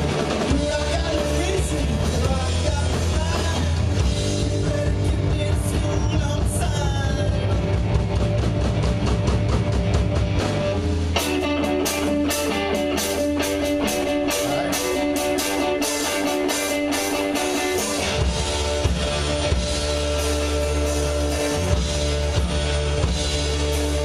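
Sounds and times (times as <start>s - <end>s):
live rock band instrumental: 0.0s - 24.0s.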